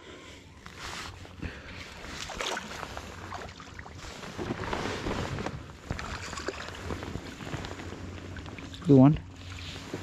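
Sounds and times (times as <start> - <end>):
water splashing and lapping: 1.8 - 10.0.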